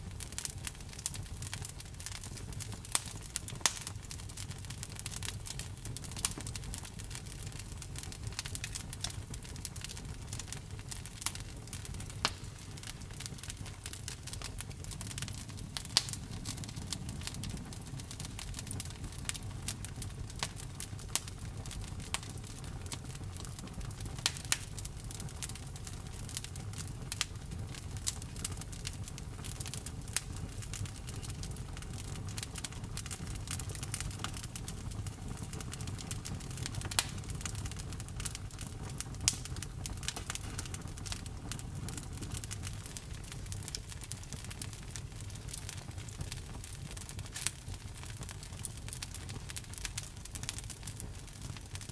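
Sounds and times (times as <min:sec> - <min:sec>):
campfire crackles and pops: 0:00.0 - 0:51.9
low rumble of flames: 0:00.0 - 0:51.9.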